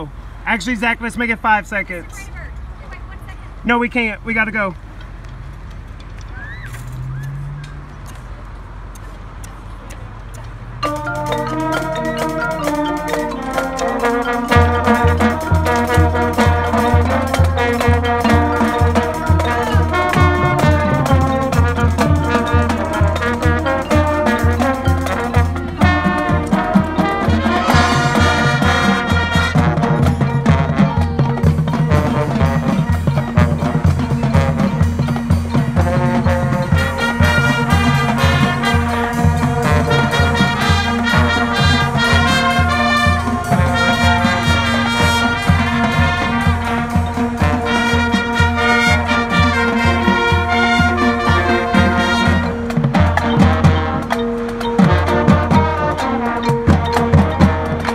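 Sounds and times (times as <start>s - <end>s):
steady drum beat: 8.9s - 57.9s
brass playing: 10.8s - 57.9s.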